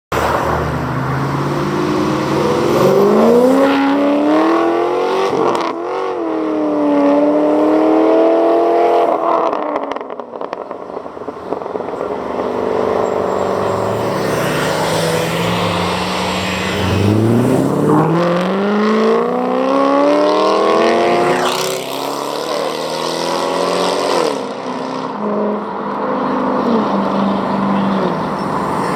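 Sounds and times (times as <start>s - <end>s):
car engines accelerating hard: 0.1s - 28.9s.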